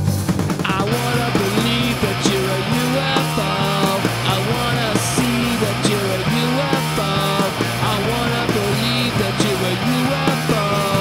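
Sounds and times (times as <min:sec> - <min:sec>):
punk rock band playing: 0:00.0 - 0:11.0.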